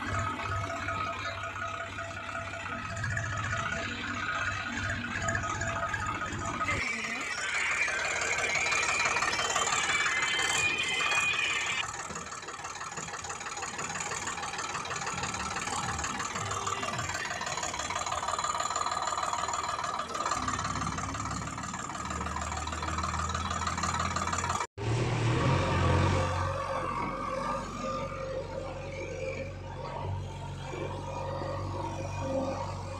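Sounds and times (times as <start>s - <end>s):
vehicle motor running: 0.0s - 32.9s.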